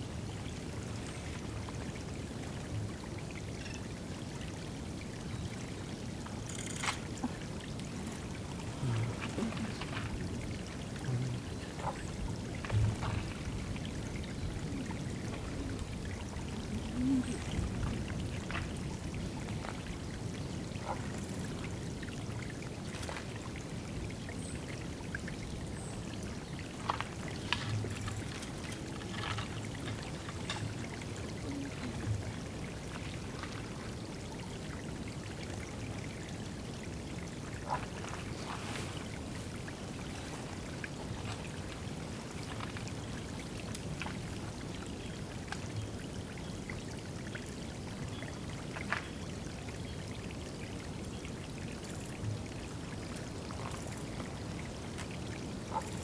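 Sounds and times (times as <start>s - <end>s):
water pouring and trickling: 0.0s - 56.0s.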